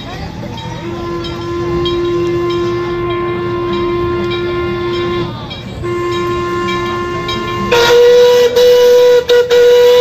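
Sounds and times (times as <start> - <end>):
steam locomotive whistle blasts: 0.8 - 10.0.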